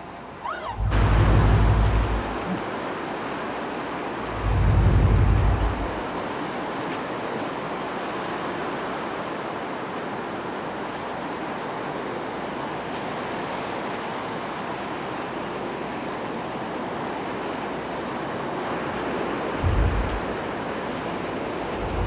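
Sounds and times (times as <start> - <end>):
ocean surf washing on beach: 0.0 - 22.0.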